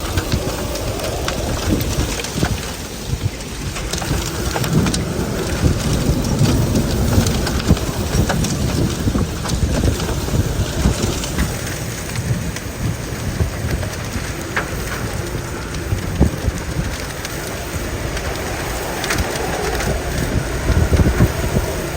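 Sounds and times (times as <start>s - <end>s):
heavy rain: 0.0s - 21.9s
raindrops ticking on surfaces: 0.0s - 21.9s
wind rumbling on microphone: 0.0s - 21.9s.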